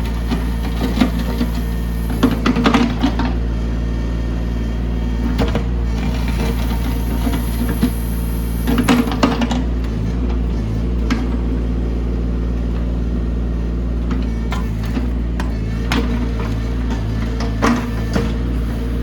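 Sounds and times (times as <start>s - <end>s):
mini excavator engine running: 0.0s - 19.0s.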